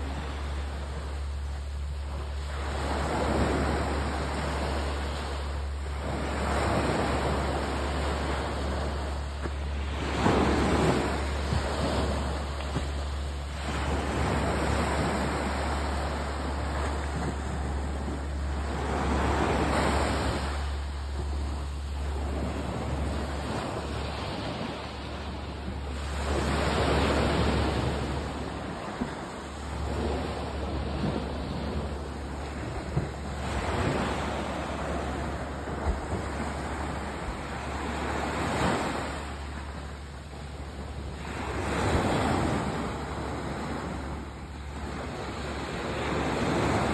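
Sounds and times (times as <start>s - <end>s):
steady low rumble: 0.0s - 46.9s
waves washing up a sandy beach: 0.0s - 46.9s.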